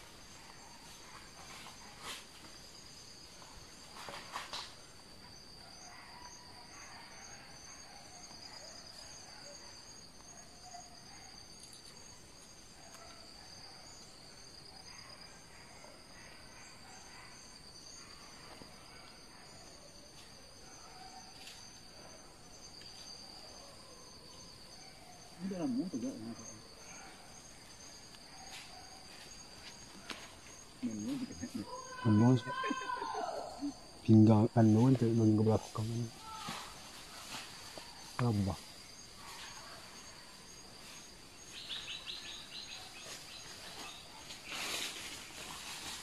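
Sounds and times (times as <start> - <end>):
insects buzzing and trilling: 0.0 - 46.0.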